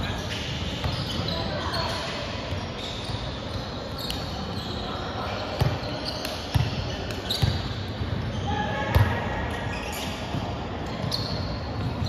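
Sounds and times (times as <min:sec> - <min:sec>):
echoing gym hall noise: 0:00.0 - 0:12.0.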